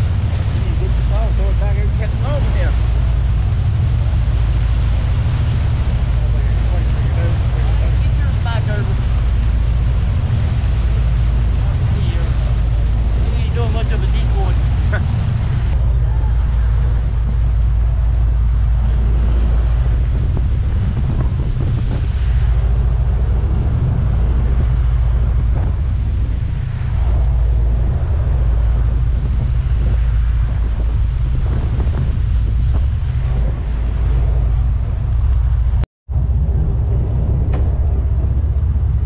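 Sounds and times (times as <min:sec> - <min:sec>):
boat engines droning: 0:00.0 - 0:39.0
churning wake rushing: 0:00.0 - 0:39.0
wind buffeting microphone: 0:00.0 - 0:39.0.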